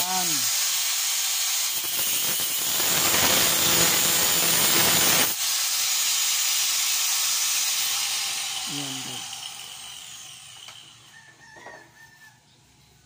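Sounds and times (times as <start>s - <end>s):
angle grinder cutting metal: 0.0s - 11.1s.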